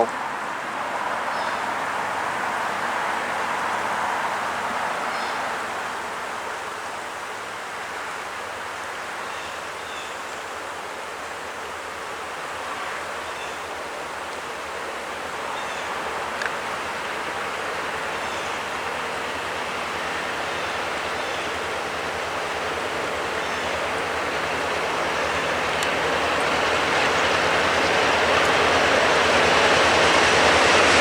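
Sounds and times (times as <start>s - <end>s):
diesel locomotive engine roar: 0.0s - 31.0s.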